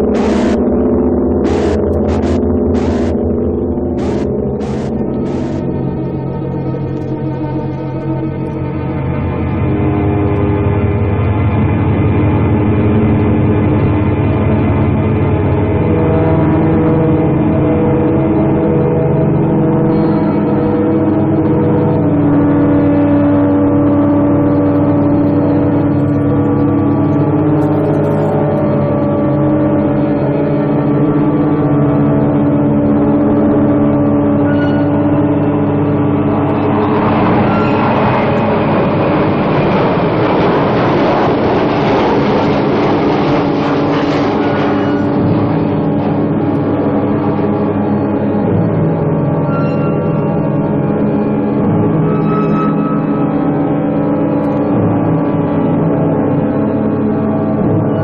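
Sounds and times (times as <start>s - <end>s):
sustained organ-like drone chord: 0.0s - 58.0s.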